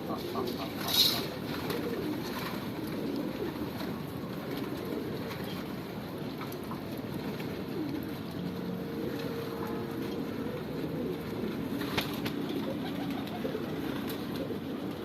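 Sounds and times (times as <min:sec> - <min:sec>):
pigeons cooing: 0:00.0 - 0:15.0
steady background hum: 0:00.0 - 0:15.0.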